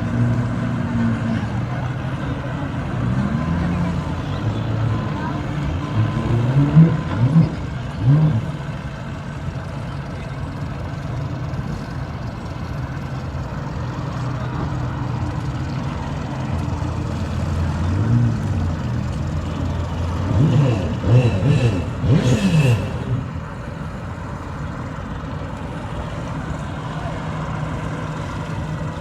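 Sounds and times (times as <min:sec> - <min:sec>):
engine idling with low hum: 0:00.0 - 0:29.0.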